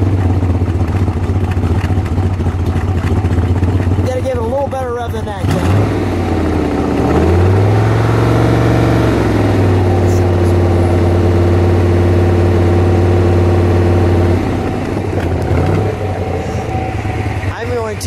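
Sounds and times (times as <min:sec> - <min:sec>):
car engine revving and idling: 0:00.0 - 0:18.0.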